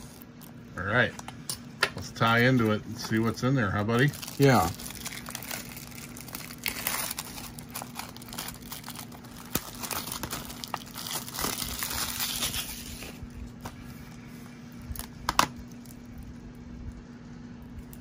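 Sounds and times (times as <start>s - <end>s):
plastic wrap crinkling: 0.0s - 0.7s, 2.2s - 16.6s.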